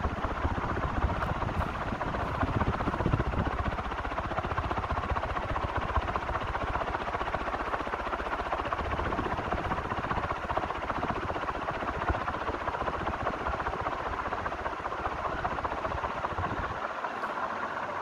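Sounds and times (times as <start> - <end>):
ceiling fan whirring: 0.0 - 18.0.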